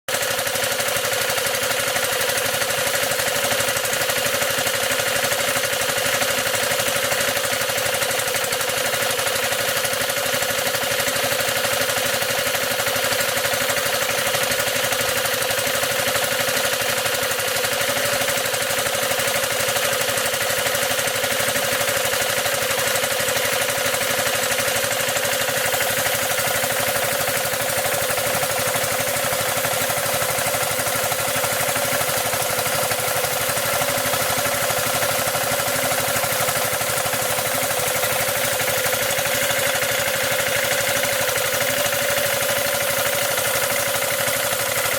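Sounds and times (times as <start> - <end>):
fast rattling knock of pump: 0.1 - 44.9
power sprayer engine running: 0.1 - 44.9.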